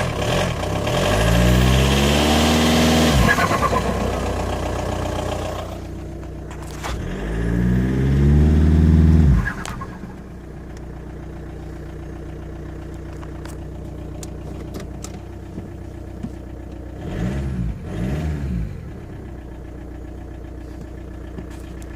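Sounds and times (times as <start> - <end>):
diesel engine idling and revving: 0.0 - 21.9.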